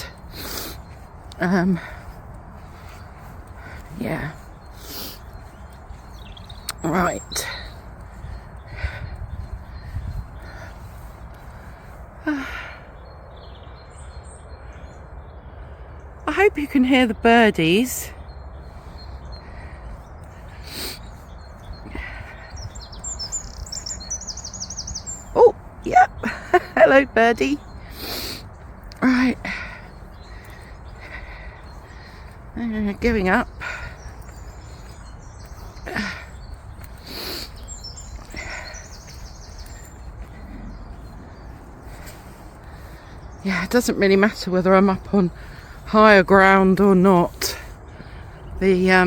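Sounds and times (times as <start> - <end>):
low outdoor rumble: 0.0 - 49.0
songbirds chirping and trilling: 0.0 - 49.0.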